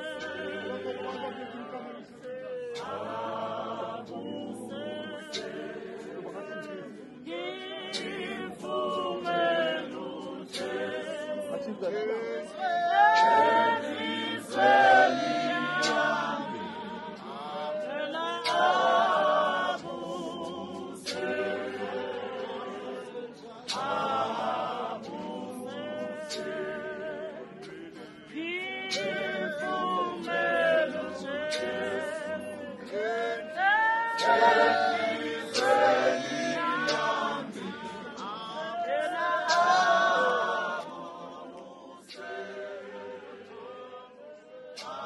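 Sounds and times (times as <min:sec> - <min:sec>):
congregation singing a hymn: 0:00.0 - 0:45.0.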